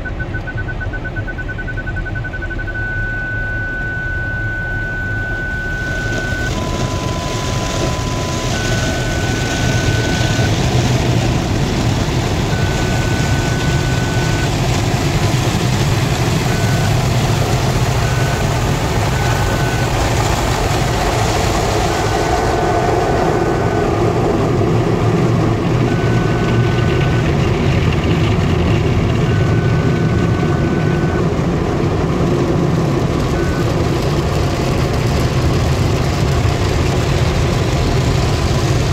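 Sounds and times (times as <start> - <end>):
parking sensor tones: 0.0 - 34.8.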